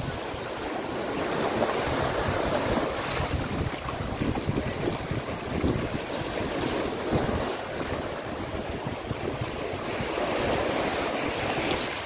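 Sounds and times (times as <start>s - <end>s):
sea waves breaking on rocks: 0.0s - 12.0s
wind gusting on microphone: 0.0s - 12.0s.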